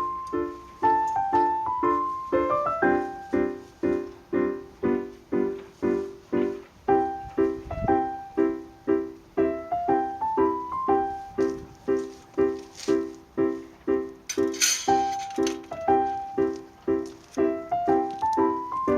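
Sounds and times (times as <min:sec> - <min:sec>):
piano tune with chords: 0:00.0 - 0:18.9.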